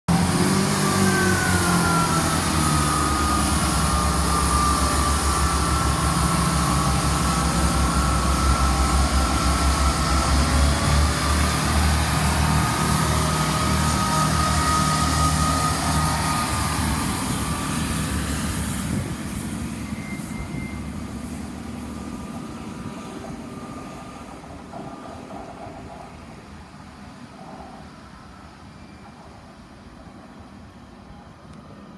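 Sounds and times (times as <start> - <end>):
diesel train engine rumble: 0.1 - 31.9
high train whine: 0.1 - 31.9.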